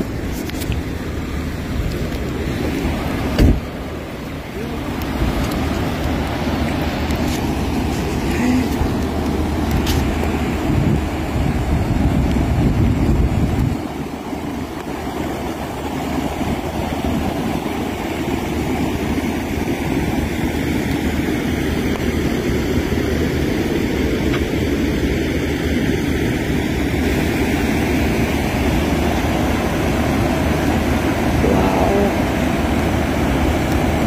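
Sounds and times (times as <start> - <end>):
wind buffeting microphone: 0.0 - 31.6
floodwater rushing: 0.0 - 34.0.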